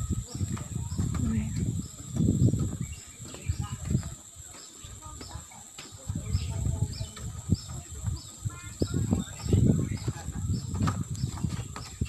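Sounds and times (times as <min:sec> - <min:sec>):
low thumps and rumble: 0:00.0 - 0:04.2, 0:06.0 - 0:12.0
bird chirping: 0:00.0 - 0:12.0.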